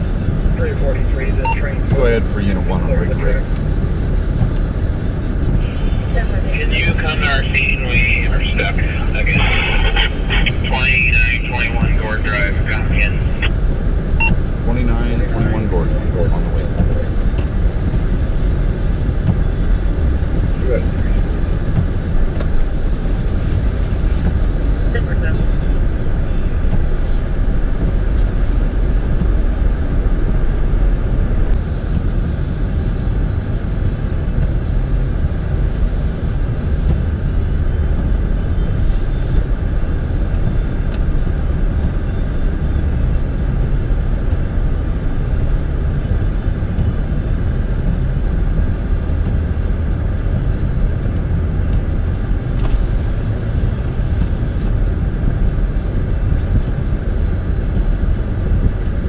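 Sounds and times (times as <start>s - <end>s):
vehicle rumbling in snow: 0.0s - 59.0s.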